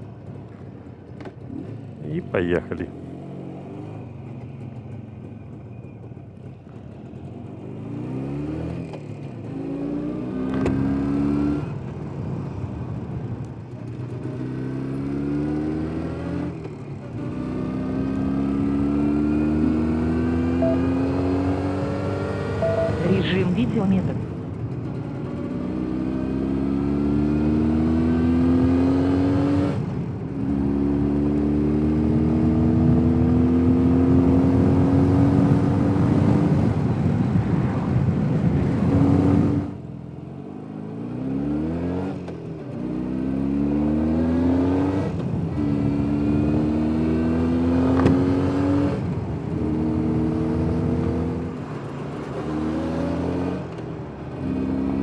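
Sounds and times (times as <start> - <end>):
motorcycle engine revving through gears: 7.2 - 12.5, 13.6 - 23.5, 24.1 - 37.2, 38.6 - 55.0.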